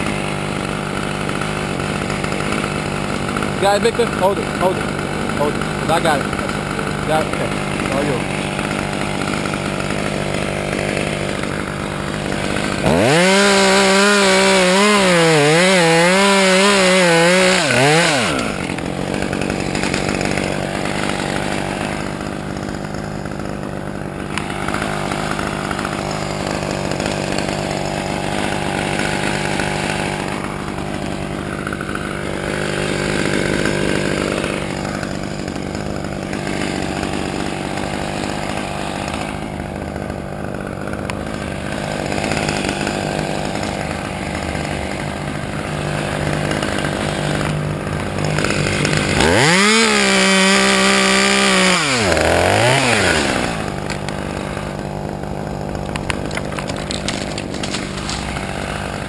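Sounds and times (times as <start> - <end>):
chainsaw idling and revving: 0.0 - 59.0.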